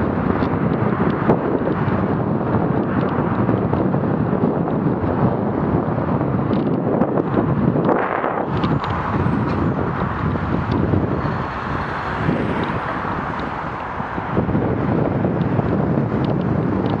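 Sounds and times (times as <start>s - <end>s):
road traffic: 0.0s - 17.0s
wind buffeting microphone: 0.0s - 17.0s.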